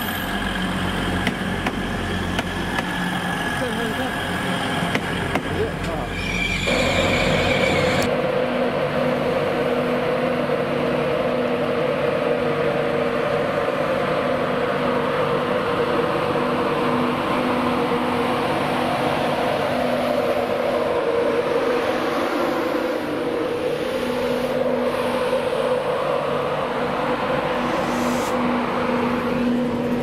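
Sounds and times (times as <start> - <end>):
electric train humming past: 0.0 - 30.0.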